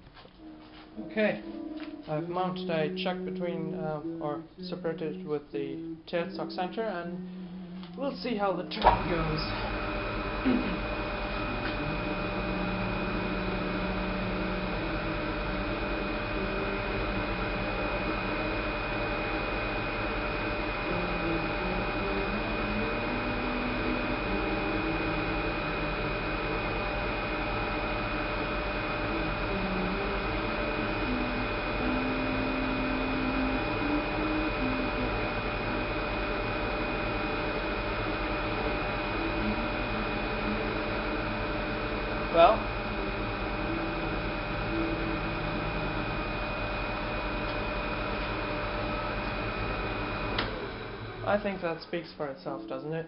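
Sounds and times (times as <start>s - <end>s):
metal lathe running: 5.6s - 52.8s.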